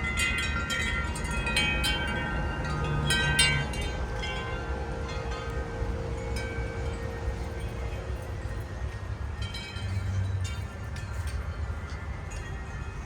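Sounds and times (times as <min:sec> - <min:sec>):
wind chimes ringing: 0:00.0 - 0:08.6, 0:09.2 - 0:13.0.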